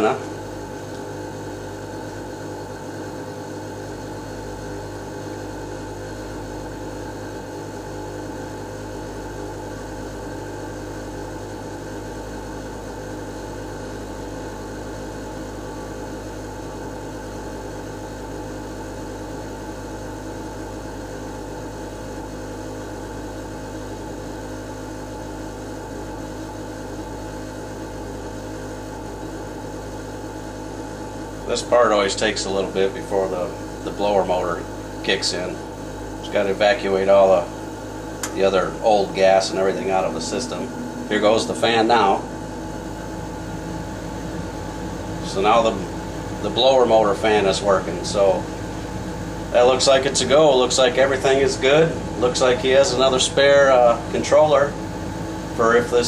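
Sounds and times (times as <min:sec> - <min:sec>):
furnace humming: 0:00.0 - 0:56.0.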